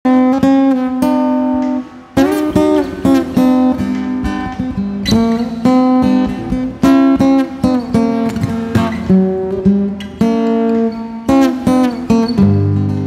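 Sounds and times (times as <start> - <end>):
acoustic guitar playing: 0.1 - 13.0.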